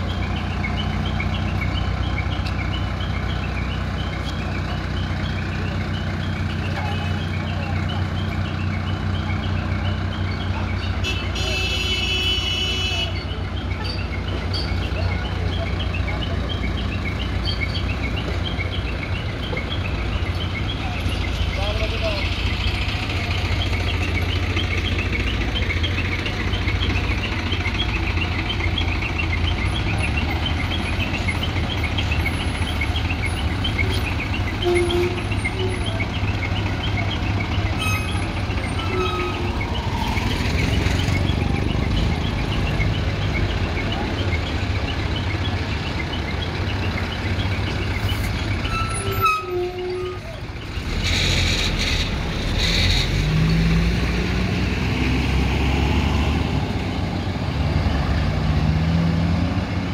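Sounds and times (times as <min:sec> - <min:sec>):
crane diesel engine running: 0:00.0 - 0:59.9.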